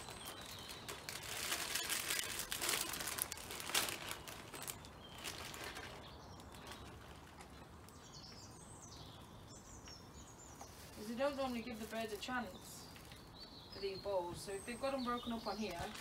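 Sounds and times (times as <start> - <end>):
bird food crackling and rustling: 0.0 - 9.0, 9.8 - 13.7, 15.2 - 16.0
small birds chirping: 0.0 - 16.0.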